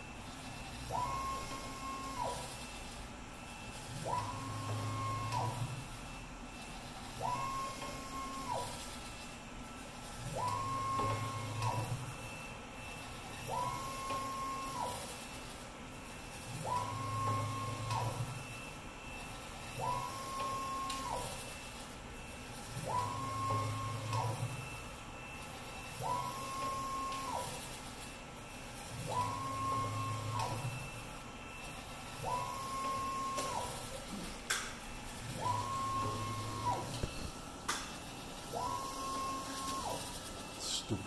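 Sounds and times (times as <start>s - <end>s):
printer carriage motor whine: 0.0s - 41.0s.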